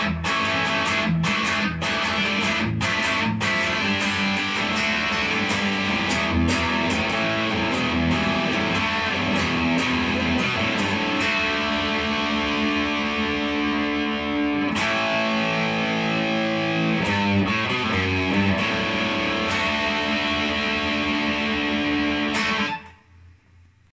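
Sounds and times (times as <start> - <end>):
electric guitar strummed chords: 0.0 - 23.0
electric guitar picked notes: 0.0 - 23.2.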